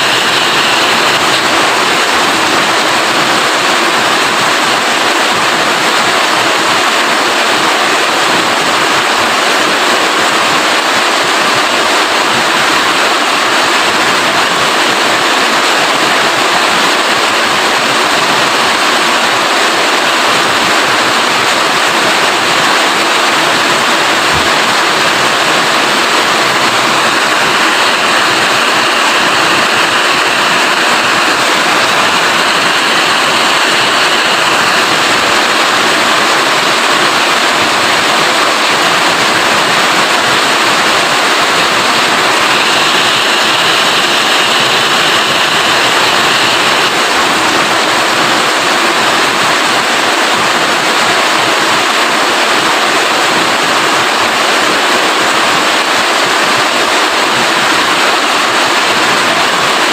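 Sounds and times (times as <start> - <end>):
rain falling steadily: 0.0 - 59.9.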